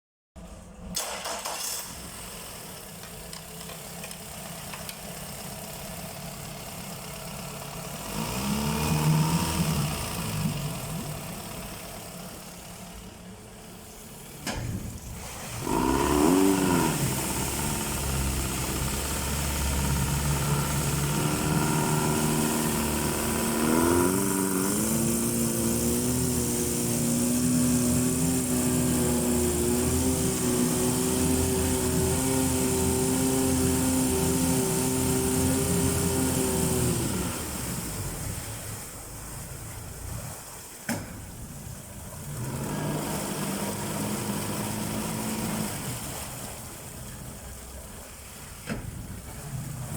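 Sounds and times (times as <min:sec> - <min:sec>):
outboard motor revving: 0:02.2 - 0:49.9.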